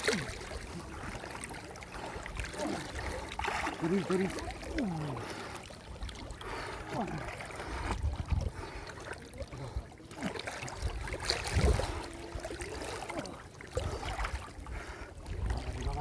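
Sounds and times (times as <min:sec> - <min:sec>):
pond water splashing and sloshing: 0:00.0 - 0:16.0.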